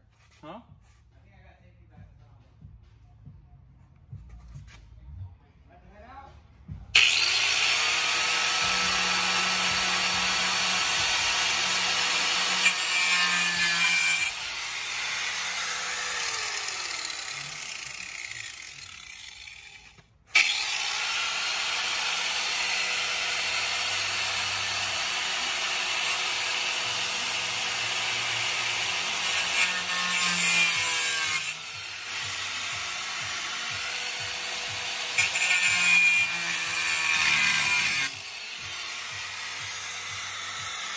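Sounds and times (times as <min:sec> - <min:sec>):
angle grinder grinding steel: 0:06.9 - 0:40.9.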